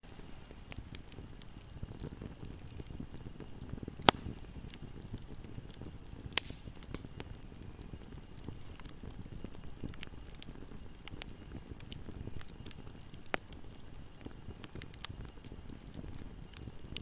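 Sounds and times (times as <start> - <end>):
sharp pops from fire: 0.0 - 17.0
wood fire crackling: 0.0 - 17.0.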